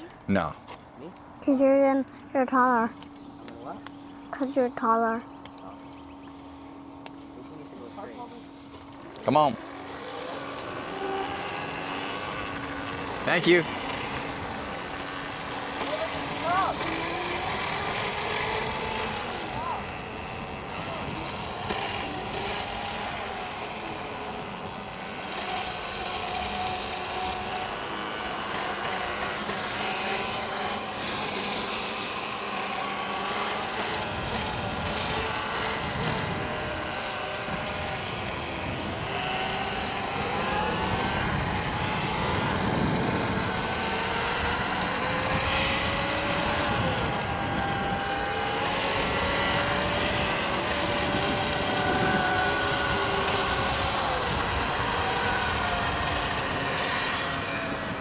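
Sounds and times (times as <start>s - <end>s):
electric motors whining: 0.0s - 58.0s
steady rushing noise: 6.4s - 58.0s.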